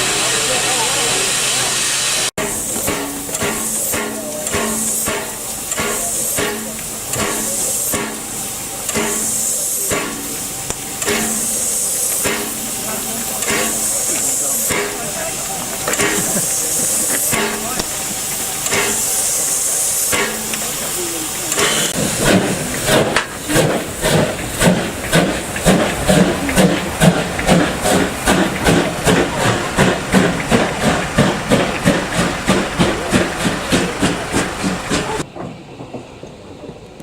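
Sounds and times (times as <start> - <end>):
steam hissing: 0.0 - 35.4
steam locomotive chuffing: 0.0 - 37.0.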